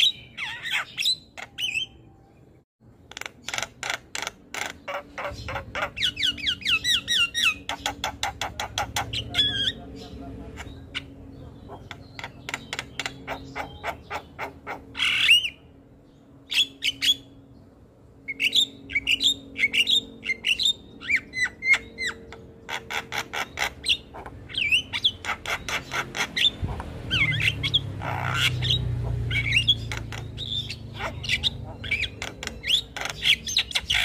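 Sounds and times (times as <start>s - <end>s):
bird squawks: 0.0s - 2.0s, 3.1s - 15.7s, 18.3s - 34.0s.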